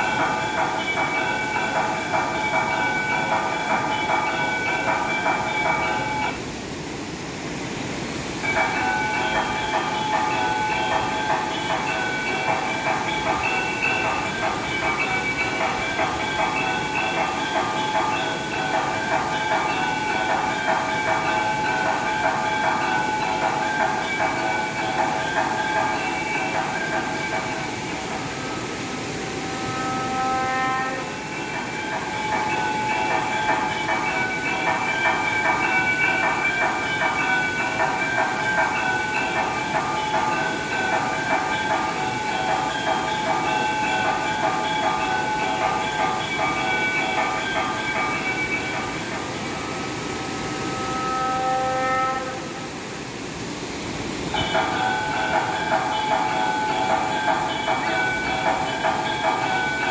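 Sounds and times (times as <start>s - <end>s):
brass bells ringing: 0.0s - 6.4s, 8.4s - 52.6s, 54.2s - 59.9s.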